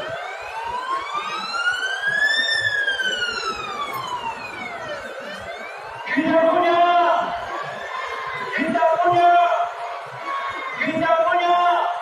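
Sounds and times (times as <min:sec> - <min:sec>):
emergency siren wailing: 0:00.0 - 0:12.0.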